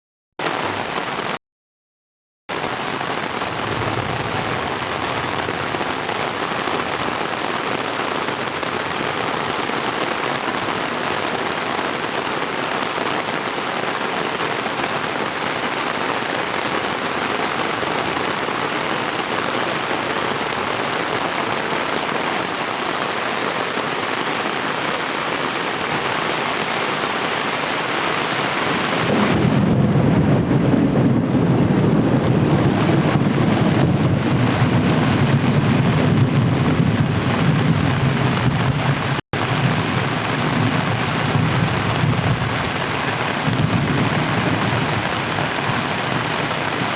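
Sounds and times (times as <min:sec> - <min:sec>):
heavy rain falling: 0:00.4 - 0:01.4, 0:02.5 - 0:46.9.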